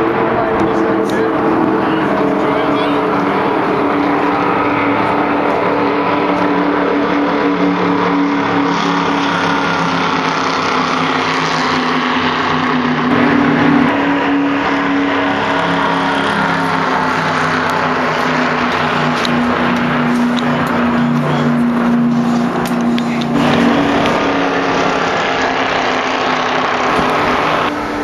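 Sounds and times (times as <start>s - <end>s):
race car engine running hard: 0.0s - 28.0s
road and wind noise: 0.0s - 28.0s.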